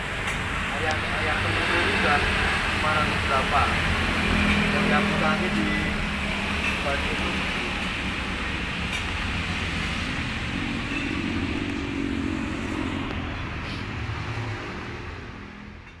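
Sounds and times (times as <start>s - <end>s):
road traffic noise: 0.0s - 16.0s
vehicle engine running: 0.8s - 15.0s.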